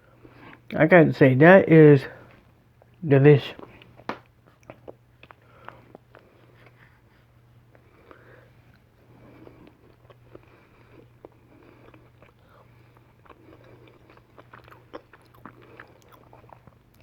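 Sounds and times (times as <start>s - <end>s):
person chewing quietly: 2.2s - 17.0s.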